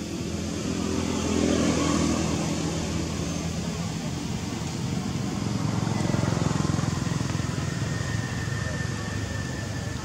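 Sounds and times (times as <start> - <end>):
vehicle driving past: 0.0 - 10.0.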